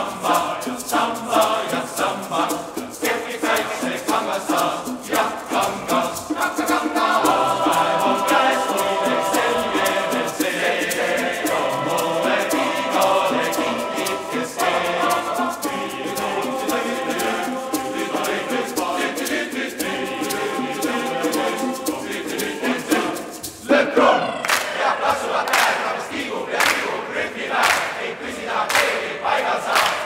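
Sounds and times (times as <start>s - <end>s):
hand percussion tapping: 0.0s - 24.8s
men's choir singing: 0.0s - 30.0s.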